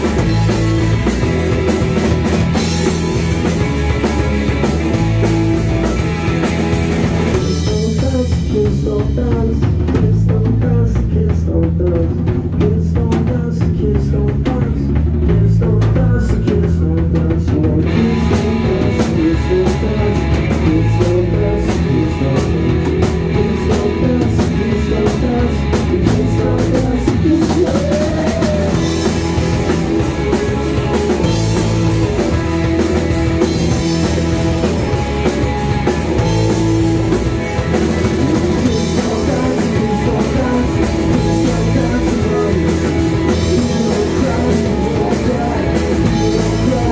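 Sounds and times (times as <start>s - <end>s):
bass notes: 0.0s - 46.9s
drum kit beat: 0.0s - 46.9s
guitars: 0.0s - 46.9s.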